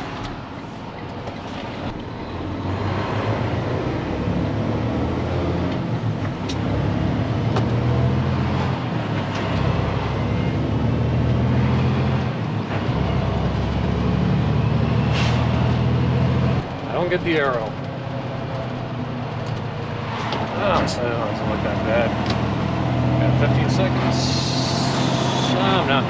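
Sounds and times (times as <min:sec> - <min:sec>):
truck diesel engine under load: 0:00.0 - 0:26.0.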